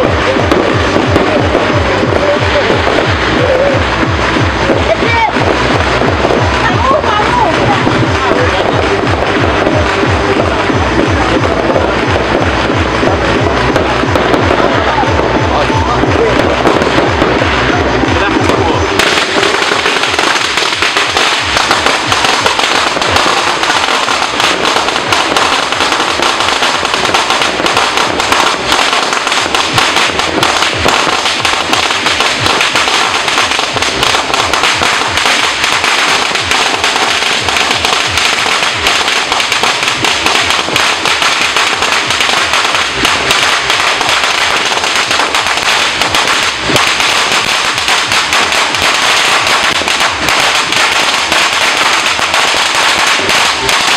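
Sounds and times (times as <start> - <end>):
firecrackers crackling: 0.0 - 53.9.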